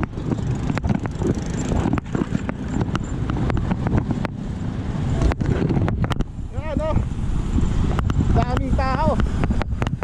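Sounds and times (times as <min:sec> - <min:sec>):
rumble of road traffic: 0:00.0 - 0:10.0.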